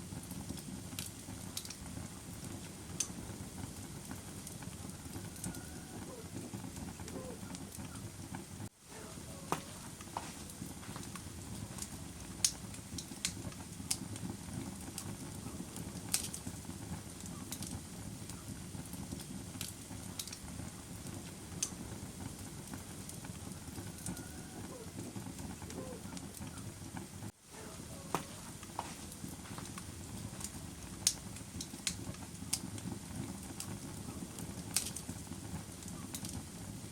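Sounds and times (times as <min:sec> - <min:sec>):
campfire burning: 0:00.0 - 0:36.9
fire crackling and popping: 0:00.0 - 0:36.9.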